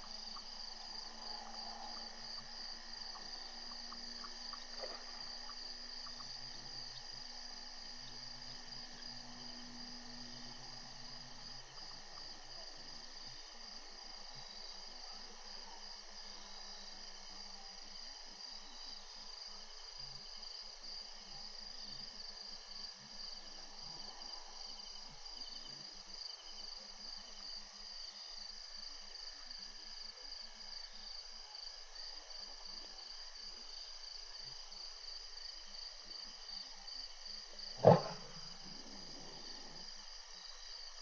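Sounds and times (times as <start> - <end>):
crickets and insects trilling: 0.0 - 41.0.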